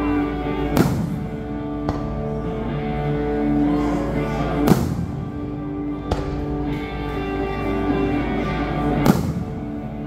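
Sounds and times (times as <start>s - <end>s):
music playing: 0.0s - 10.0s.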